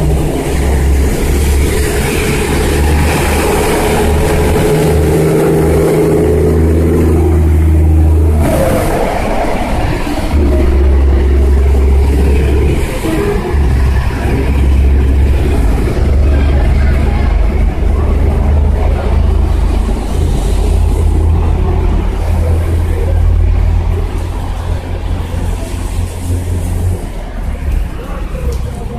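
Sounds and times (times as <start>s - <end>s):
deep engine rumble: 0.0s - 28.9s
heavy rain: 0.0s - 28.9s.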